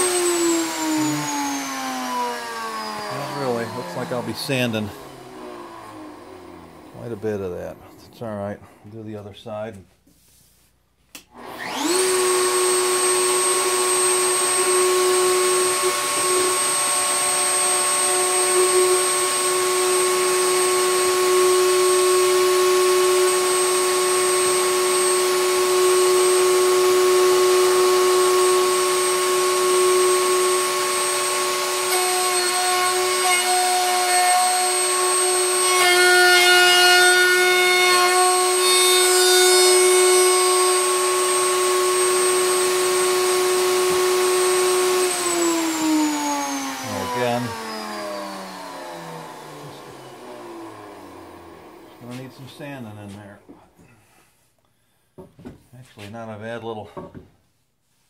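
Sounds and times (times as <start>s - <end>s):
wood router whine: 0.0s - 8.1s, 11.2s - 53.4s.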